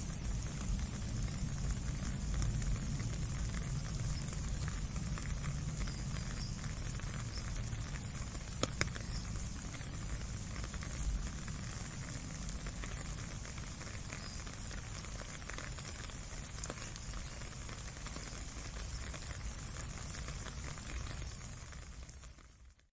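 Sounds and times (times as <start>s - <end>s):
light rain on puddle: 0.0s - 22.9s
sharp drip ticks: 0.1s - 22.8s.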